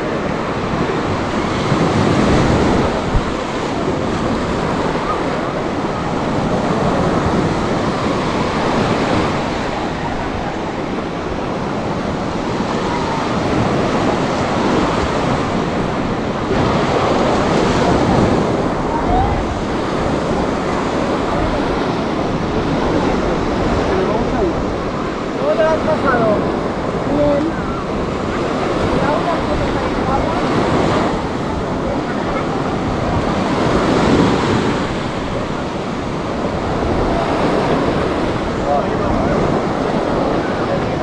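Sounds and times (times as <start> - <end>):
waves breaking on beach: 0.0 - 41.0
wind buffeting microphone: 0.0 - 41.0.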